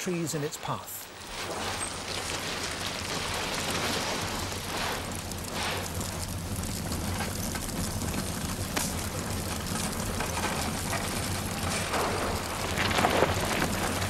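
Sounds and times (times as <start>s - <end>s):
lava crackling and hissing: 0.1s - 14.0s.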